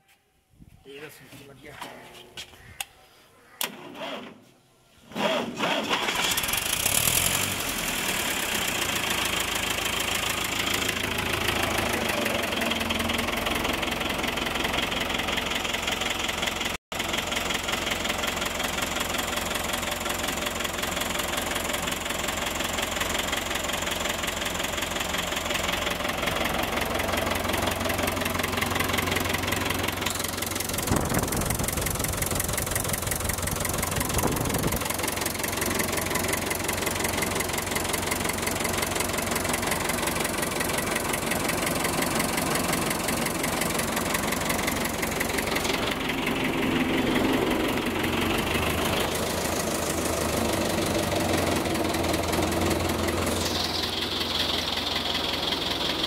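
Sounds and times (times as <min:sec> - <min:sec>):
tractor diesel engine starting and idling: 0:03.6 - 0:56.0.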